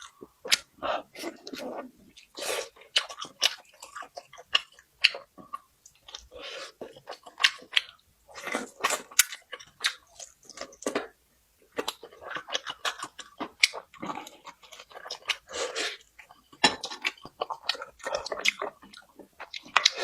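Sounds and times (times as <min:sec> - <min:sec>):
chewing and crunching food: 0:00.0 - 0:20.0.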